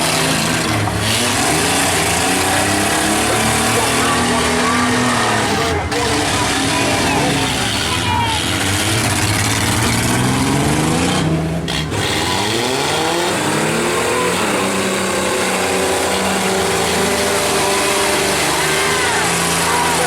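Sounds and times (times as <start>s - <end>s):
truck and van engines revving: 0.0s - 20.0s.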